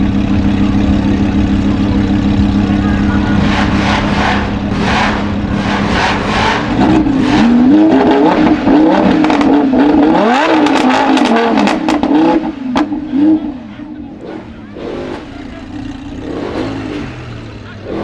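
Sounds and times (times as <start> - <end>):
sports car engine revving: 0.0 - 18.0.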